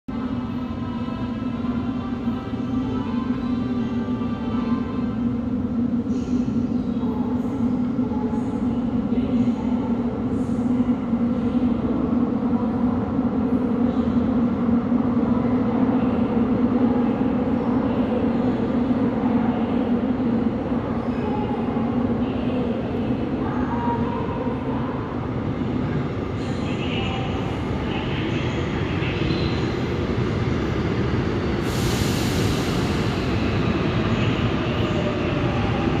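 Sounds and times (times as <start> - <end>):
subway train approaching: 0.1 - 36.0.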